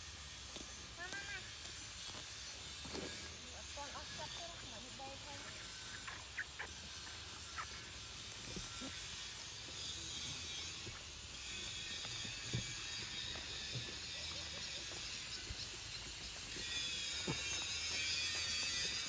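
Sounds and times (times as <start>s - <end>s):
high-pitched insect trilling: 0.0s - 19.0s.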